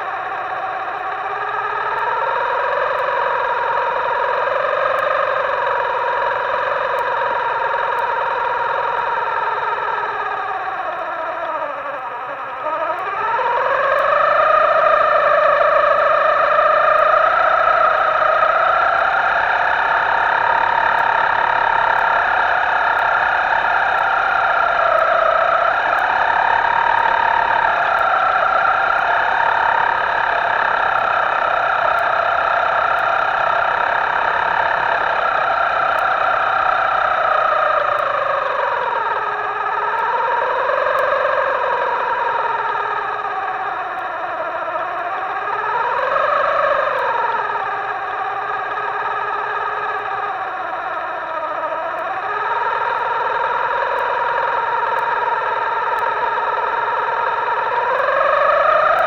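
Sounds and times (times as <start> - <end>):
small electric motor whining: 0.0 - 59.0.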